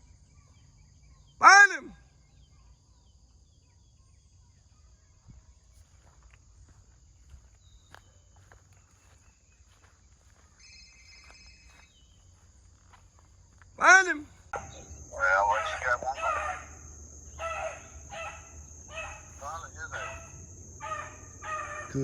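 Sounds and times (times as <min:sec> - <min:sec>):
faint insect buzz: 0:02.2 - 0:22.0.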